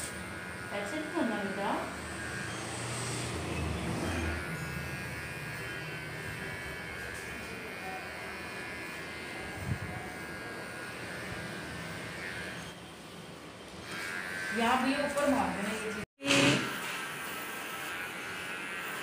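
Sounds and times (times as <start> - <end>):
electric hair clipper buzzing: 0.0 - 12.7, 13.8 - 19.0.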